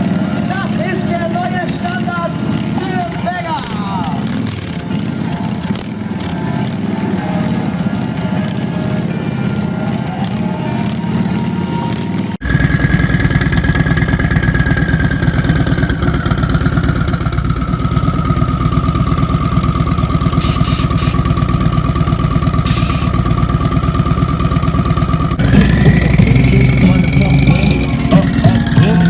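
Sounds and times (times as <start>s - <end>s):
high whine: 0.0s - 29.0s
motorcycle engine running: 0.0s - 29.0s.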